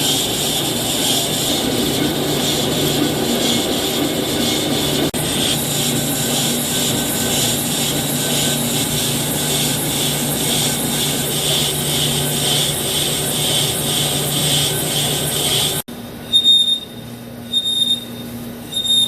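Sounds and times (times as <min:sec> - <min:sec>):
lathe cutting metal hiss: 0:00.0 - 0:15.9
machine hum: 0:00.0 - 0:17.3.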